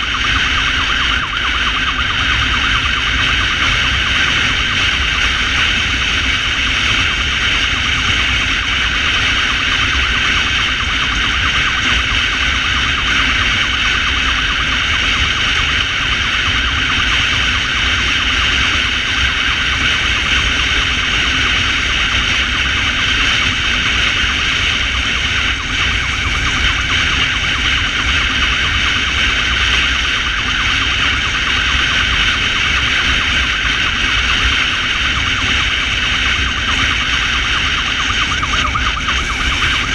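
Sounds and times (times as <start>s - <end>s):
ambulance siren: 0.0s - 39.9s
wind and road noise: 0.0s - 39.9s.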